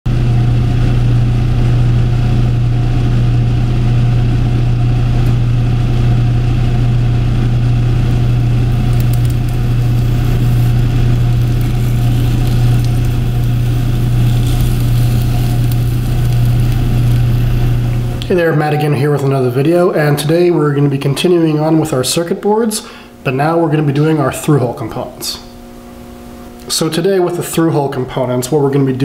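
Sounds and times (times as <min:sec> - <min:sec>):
machine low hum: 0:00.1 - 0:29.0.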